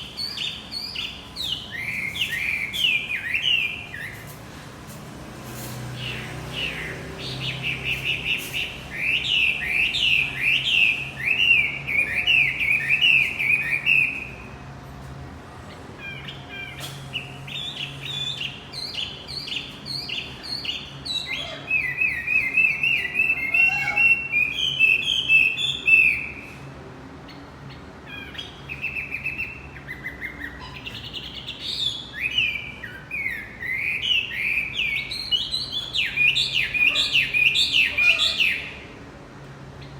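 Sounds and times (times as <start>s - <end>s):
bird chirping song: 0.0s - 4.4s, 5.8s - 14.5s, 15.7s - 26.6s, 27.3s - 38.9s.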